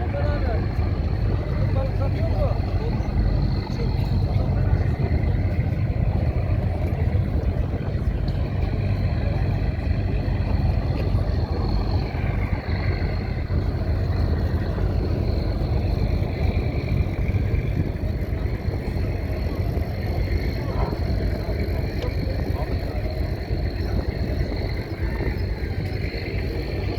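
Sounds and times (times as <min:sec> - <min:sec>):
engine rumble: 0:00.0 - 0:26.9.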